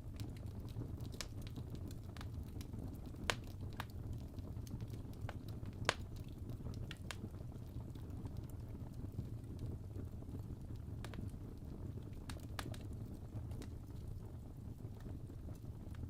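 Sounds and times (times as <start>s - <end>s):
fire crackling and rumbling: 0.0s - 16.0s.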